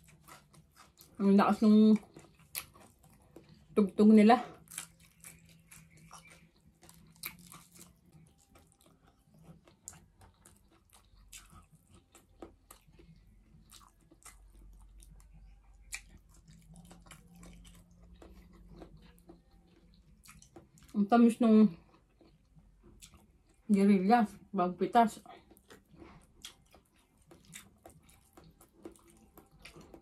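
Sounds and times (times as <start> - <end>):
person chewing food: 0.0 - 3.8, 4.5 - 21.0, 21.8 - 23.7, 25.2 - 30.0.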